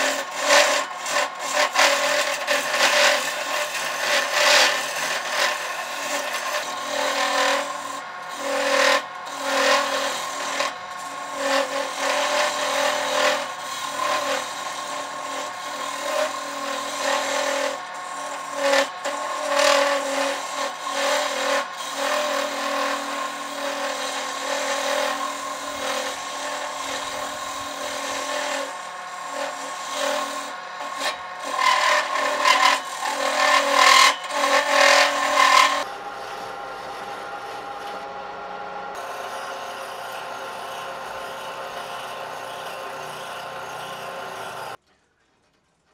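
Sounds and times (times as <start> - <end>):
tool rasping against spinning wood: 0.0 - 44.8
wood lathe hum: 0.0 - 44.8.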